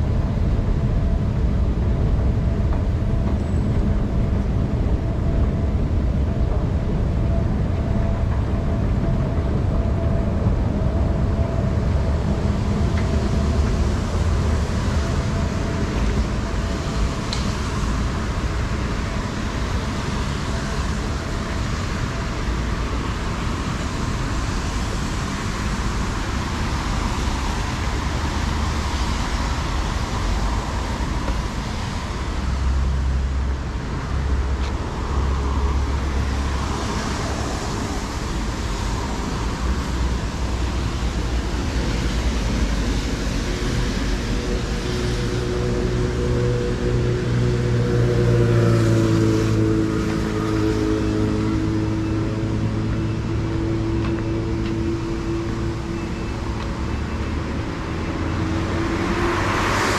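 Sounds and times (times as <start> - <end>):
heavy vehicle engine hum: 0.0 - 59.9
road traffic noise: 0.0 - 59.9.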